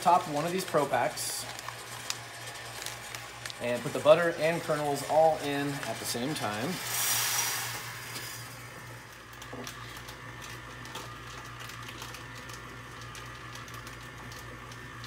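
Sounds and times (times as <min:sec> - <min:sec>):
motor humming: 0:00.0 - 0:15.0
popcorn kernels poured into kettle: 0:00.0 - 0:15.0.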